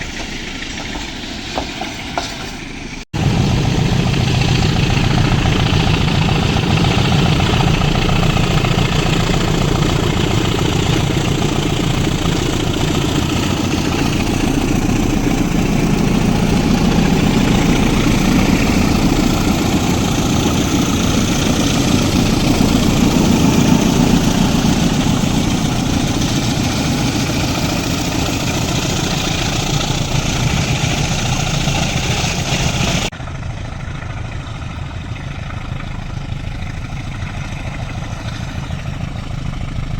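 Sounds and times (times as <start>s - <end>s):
diesel locomotive engine: 0.0s - 39.9s.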